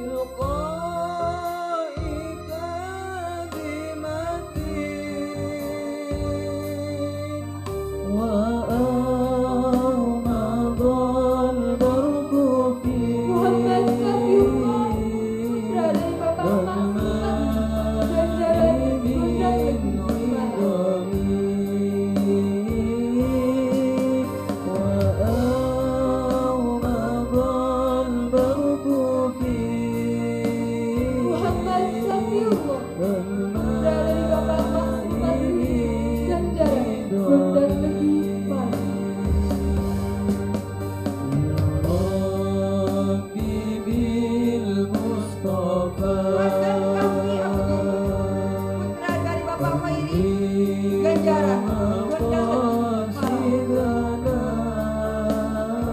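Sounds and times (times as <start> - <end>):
electronic keyboard accompaniment: 0.0 - 55.9
instrumental backing with beat: 0.0 - 55.9
men singing together: 0.0 - 55.9.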